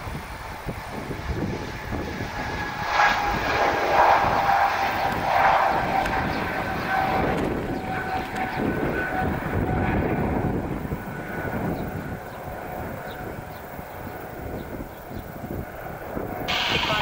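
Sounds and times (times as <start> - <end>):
jet airliner taking off: 0.0 - 17.0.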